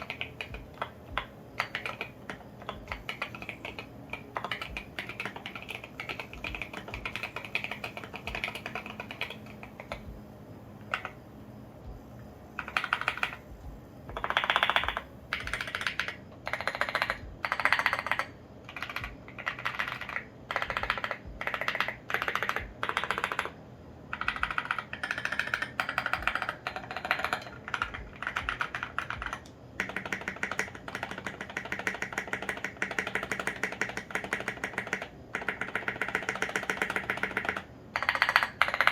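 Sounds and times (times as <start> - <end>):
mechanical keyboard typing: 0.0 - 10.1, 10.8 - 11.2, 12.6 - 38.9.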